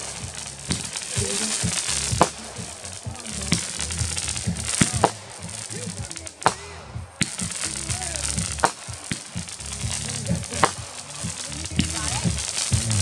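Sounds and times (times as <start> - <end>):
firework bangs: 0.0 - 13.0
firework hiss: 0.0 - 13.0.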